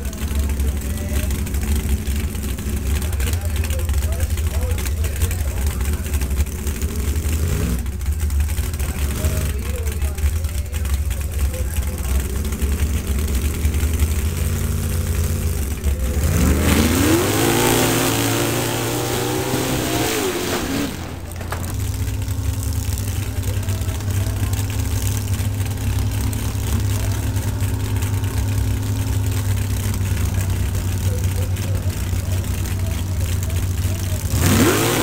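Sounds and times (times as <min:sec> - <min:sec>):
low engine idle: 0:00.0 - 0:35.0
truck engine revving: 0:00.0 - 0:35.0.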